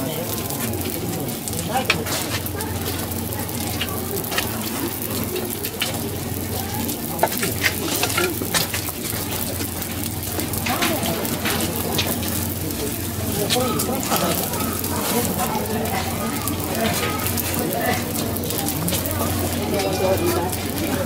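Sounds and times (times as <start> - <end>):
crackles and pops from frying: 0.0 - 21.0
food sizzling on a griddle: 0.0 - 21.0.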